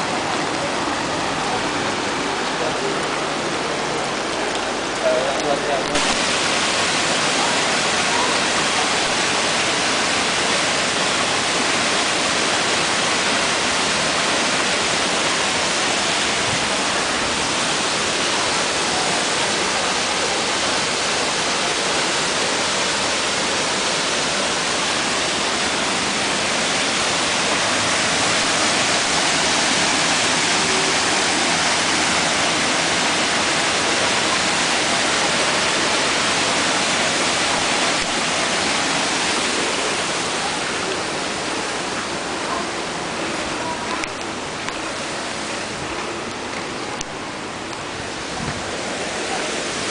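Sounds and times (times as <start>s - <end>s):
rushing floodwater cascade: 0.0s - 49.9s.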